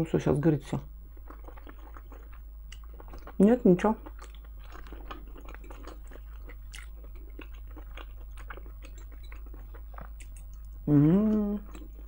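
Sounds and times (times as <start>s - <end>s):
faint low hum: 0.0s - 12.0s
person chewing food: 1.1s - 12.0s.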